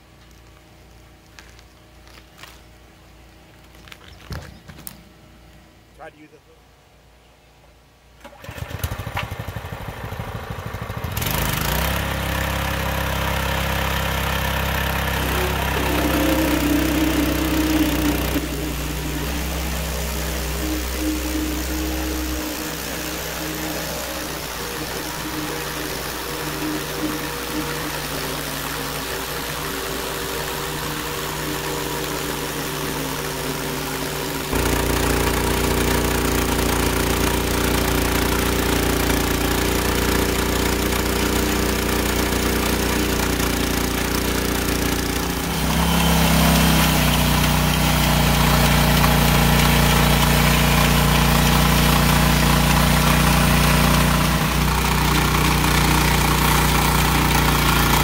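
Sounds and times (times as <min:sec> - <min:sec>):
band sawmill cutting a log: 0:11.1 - 0:58.0.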